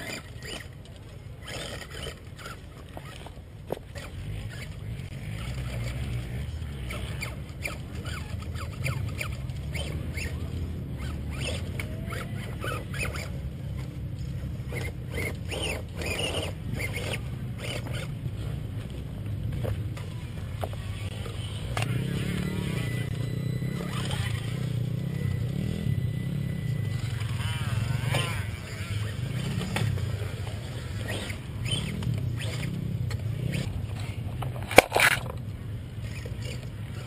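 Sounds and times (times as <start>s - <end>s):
rc truck motor whines and clicks: 0.0s - 37.0s.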